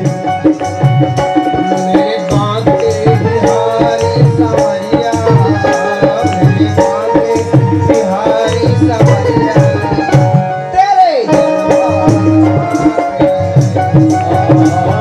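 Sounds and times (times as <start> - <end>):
harmonium melody: 0.0 - 15.0
tabla rhythm: 0.0 - 15.0.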